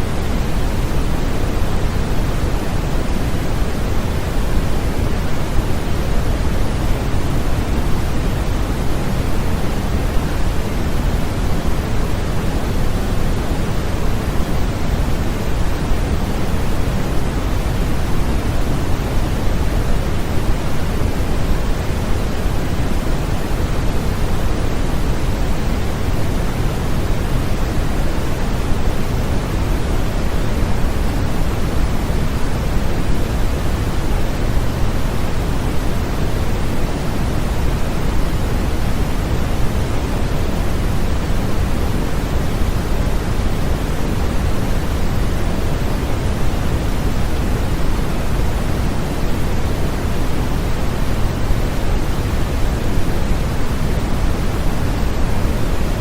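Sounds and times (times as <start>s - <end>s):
electronic white noise hiss: 0.0s - 56.0s.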